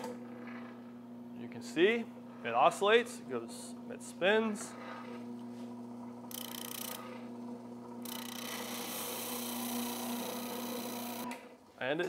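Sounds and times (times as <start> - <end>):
spindle sander motor hum: 0.2 - 11.5.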